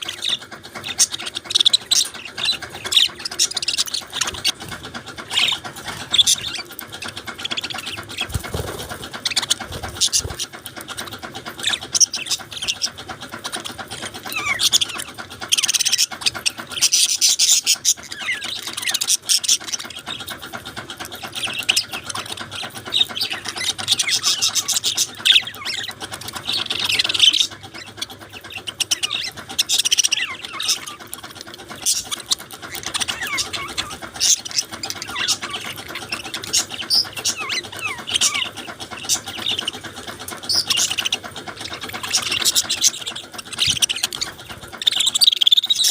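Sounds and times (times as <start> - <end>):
budgerigars chirping: 0.0 - 45.9.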